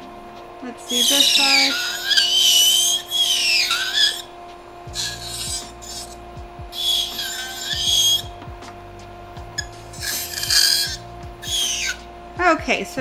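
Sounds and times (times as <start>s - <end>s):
electric nail file grinding: 0.0s - 13.0s
mechanical hum: 0.0s - 13.0s.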